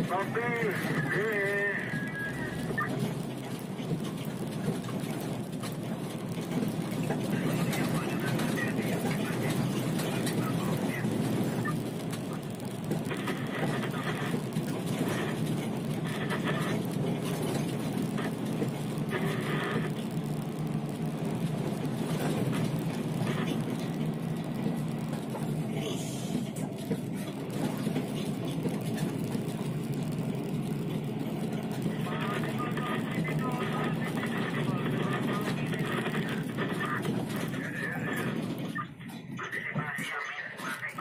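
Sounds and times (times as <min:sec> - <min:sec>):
road noise: 0:00.0 - 0:41.0
truck engine drone: 0:00.0 - 0:41.0.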